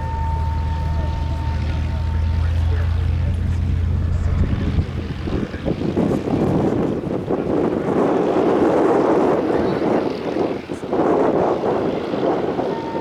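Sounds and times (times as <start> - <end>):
propeller airplane engine drone: 0.0 - 13.0
wind buffeting microphone: 0.0 - 13.0.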